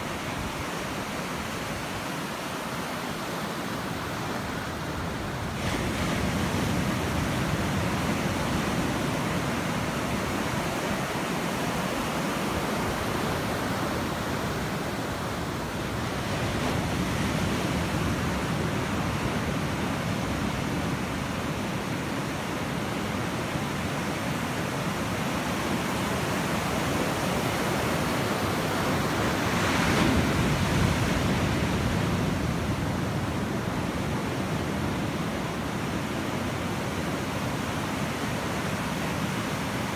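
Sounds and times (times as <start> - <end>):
ocean surf breaking: 0.2 - 39.9.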